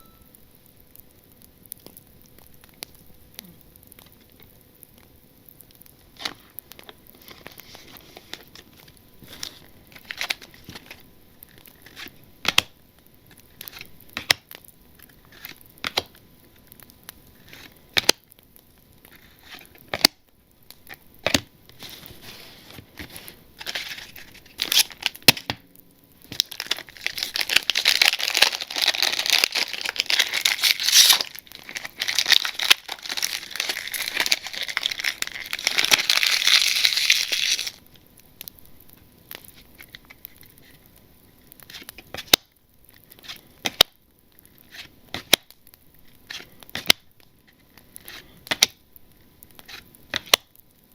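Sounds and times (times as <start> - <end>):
plastic wrapper crinkling and tearing: 5.6 - 25.6, 26.2 - 48.8.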